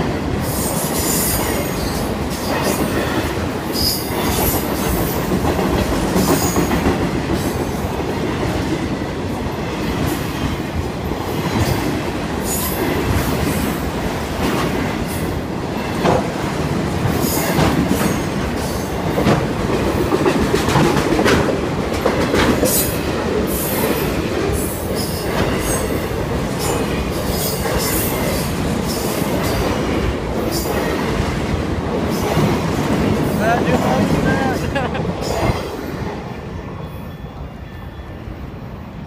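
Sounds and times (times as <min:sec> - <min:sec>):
train wheels rumbling: 0:00.0 - 0:36.6.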